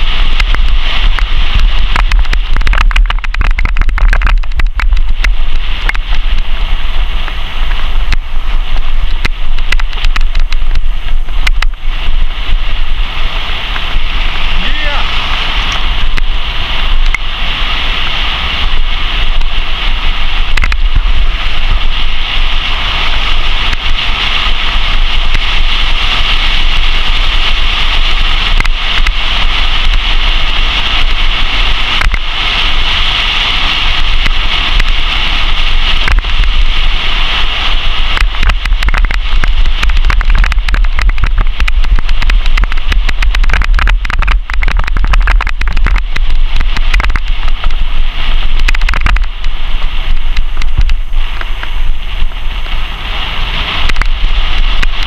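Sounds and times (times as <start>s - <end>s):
tyre rumble on dirt road: 0.0s - 55.0s
wind buffeting microphone: 0.0s - 55.0s.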